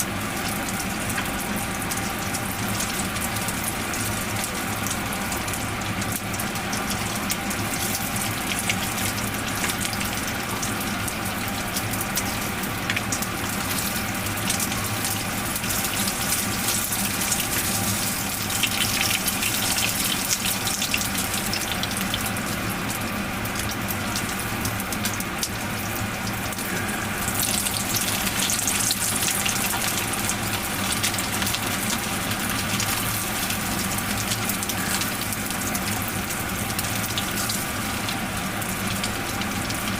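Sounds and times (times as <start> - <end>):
oil sizzling and crackling: 0.0 - 39.9.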